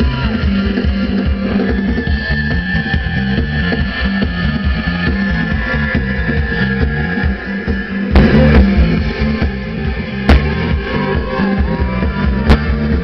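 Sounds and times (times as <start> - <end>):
drum kit: 0.0 - 13.0
live band playing loudly: 0.0 - 13.0
repeating bass line: 0.0 - 13.0.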